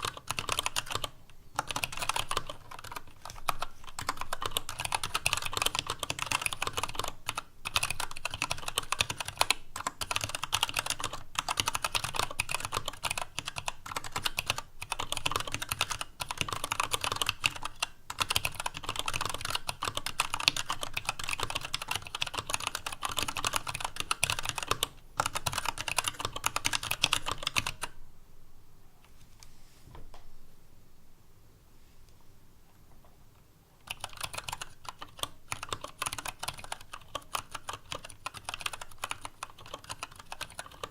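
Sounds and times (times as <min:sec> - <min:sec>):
fast mechanical keyboard typing: 0:00.0 - 0:28.0, 0:33.8 - 0:40.9.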